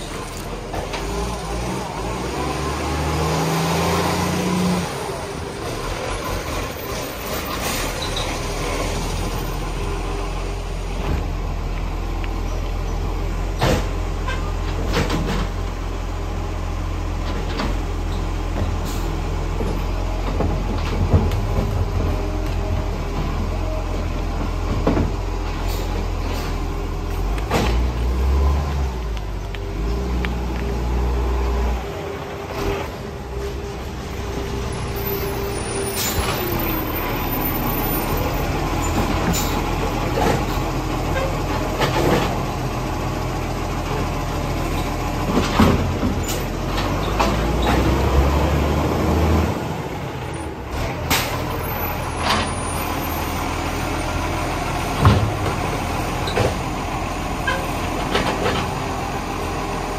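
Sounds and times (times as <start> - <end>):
truck diesel engine humming: 0.0 - 59.9.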